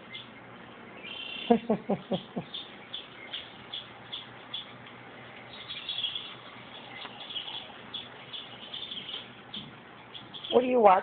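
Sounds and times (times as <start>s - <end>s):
birds chirping over tv speakers: 0.0s - 11.0s.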